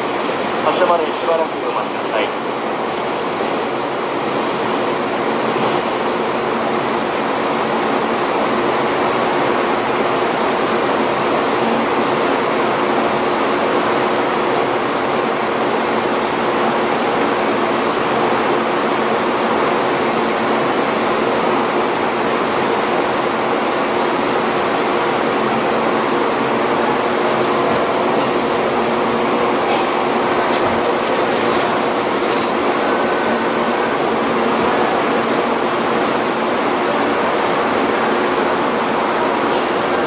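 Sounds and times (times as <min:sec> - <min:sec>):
low equipment hum: 0:00.0 - 0:40.0.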